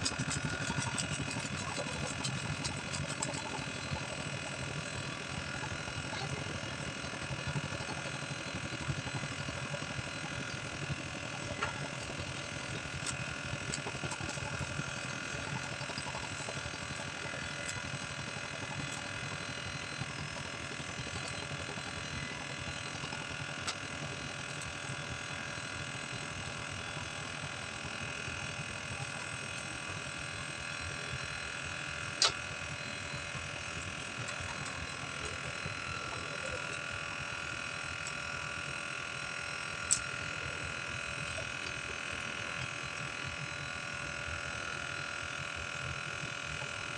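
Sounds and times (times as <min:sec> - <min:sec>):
motor drone with tones: 0:00.0 - 0:46.9.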